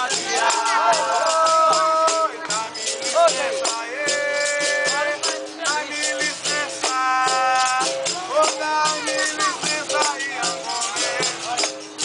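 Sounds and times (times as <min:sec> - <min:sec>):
hand drums keeping a beat: 0:00.0 - 0:12.0
voices singing held notes: 0:00.0 - 0:12.0.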